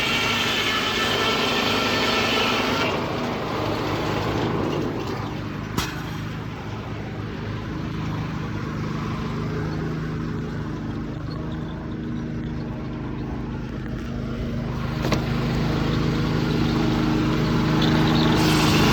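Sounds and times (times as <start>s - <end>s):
muffled diesel engine running: 0.0s - 18.9s.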